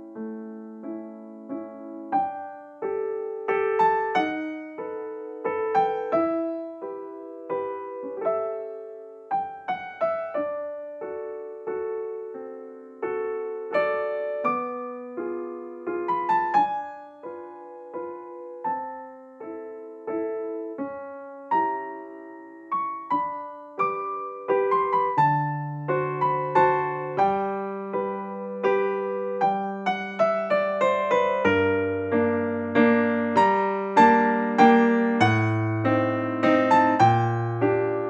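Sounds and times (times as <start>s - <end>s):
gentle piano piece: 0.0s - 38.0s.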